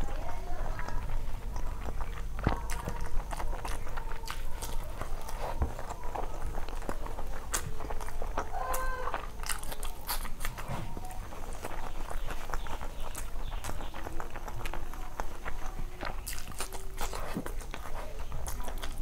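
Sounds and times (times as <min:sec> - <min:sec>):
lip smacks: 0:00.0 - 0:19.0
wet chewing: 0:00.0 - 0:19.0.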